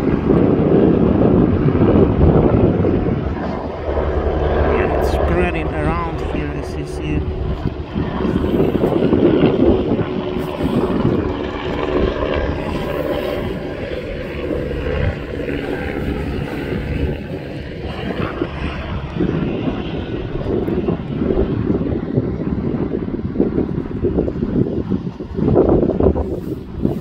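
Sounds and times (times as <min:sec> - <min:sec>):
low rumble: 0:00.0 - 0:26.9
aircraft engine drone: 0:00.0 - 0:27.0.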